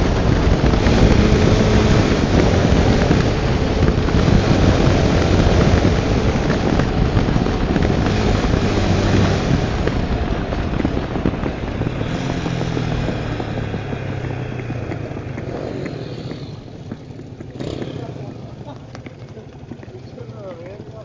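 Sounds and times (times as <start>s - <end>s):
wind rushing over microphone: 0.0s - 18.2s
motorcycle engine running: 0.0s - 21.0s.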